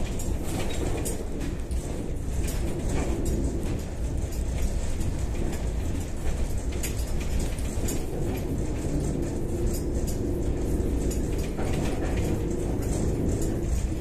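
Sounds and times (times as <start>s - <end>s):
body rattles: 0.0s - 14.0s
low road rumble: 0.0s - 14.0s.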